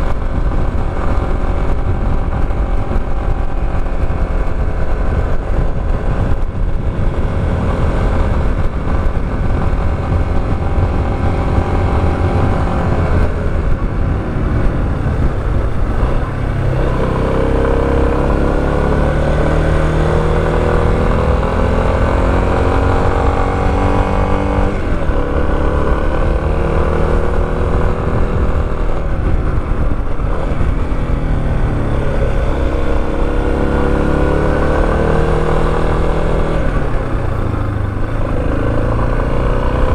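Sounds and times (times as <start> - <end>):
constant low rumble: 0.0 - 39.9
motorcycle engine revving: 0.0 - 39.9.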